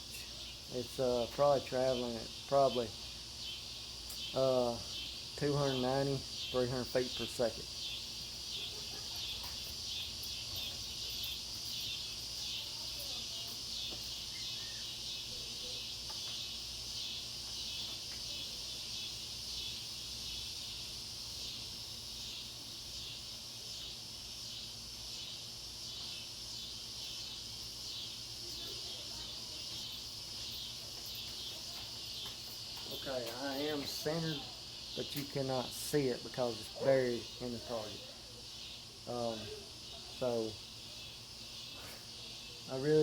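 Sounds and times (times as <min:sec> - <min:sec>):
insects chorus shrill drone: 0:00.0 - 0:43.0.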